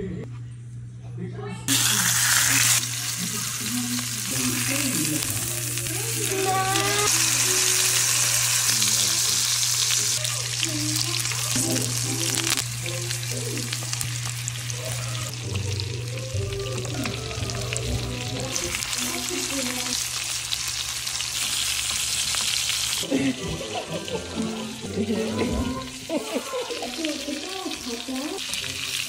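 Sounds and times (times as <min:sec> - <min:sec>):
steak sizzling in butter: 0:01.7 - 0:29.0.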